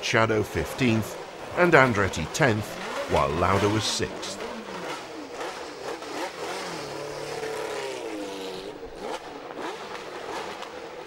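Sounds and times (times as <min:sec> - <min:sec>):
racing car engines blipping: 0:00.0 - 0:11.0.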